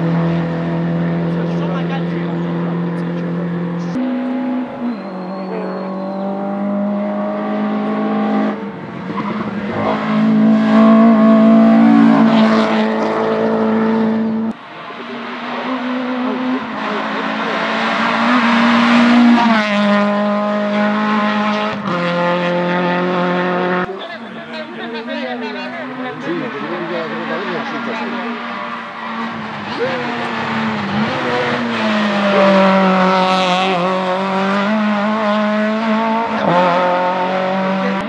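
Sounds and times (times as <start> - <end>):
racing car engine revving: 0.0 - 38.0.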